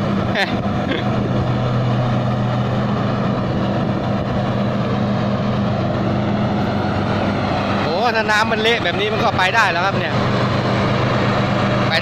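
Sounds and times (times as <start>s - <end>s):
combine harvester engine labouring: 0.0s - 12.0s.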